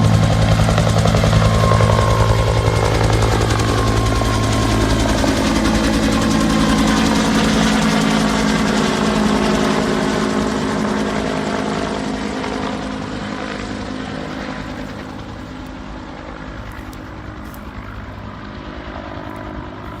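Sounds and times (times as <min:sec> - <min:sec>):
helicopter flying: 0:00.0 - 0:20.0.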